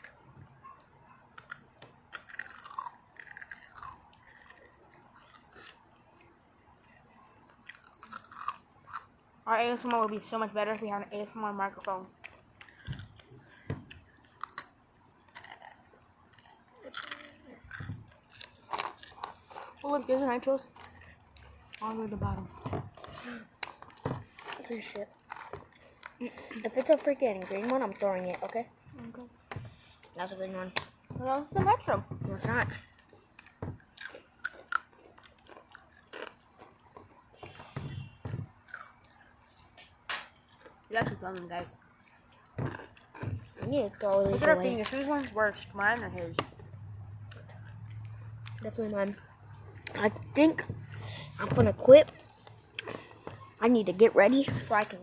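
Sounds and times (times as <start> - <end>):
crunching and chewing chips: 0.0 - 55.0.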